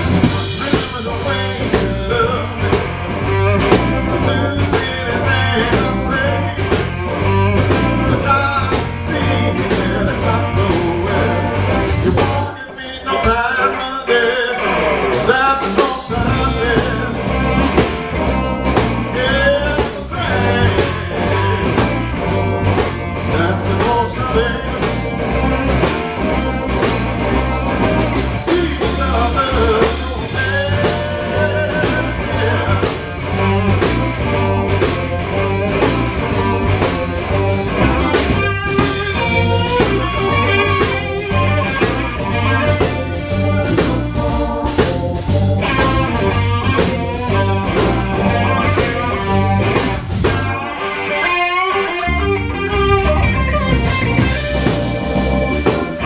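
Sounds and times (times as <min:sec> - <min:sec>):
bass line: 0:00.0 - 0:56.0
drum kit: 0:00.0 - 0:56.0
electric guitar with bent notes: 0:00.0 - 0:56.0.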